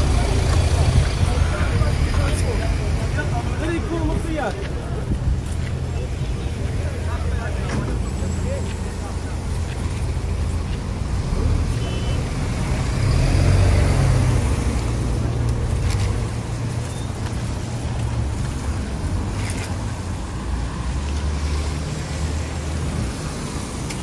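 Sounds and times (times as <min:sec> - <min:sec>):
traffic rumble on wet road: 0:00.0 - 0:24.0.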